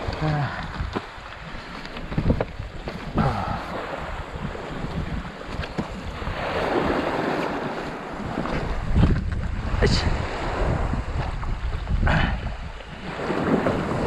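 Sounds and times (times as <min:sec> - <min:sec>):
sea water washing and splashing: 0:00.0 - 0:14.0
wind buffeting microphone: 0:00.0 - 0:14.0.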